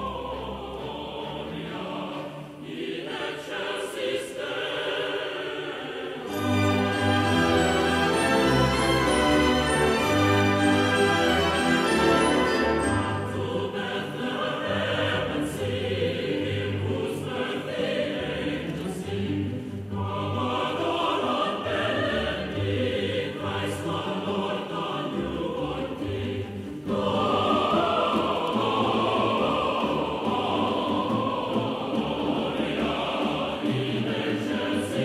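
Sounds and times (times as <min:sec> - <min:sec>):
choir singing with orchestra: 0:00.0 - 0:35.0.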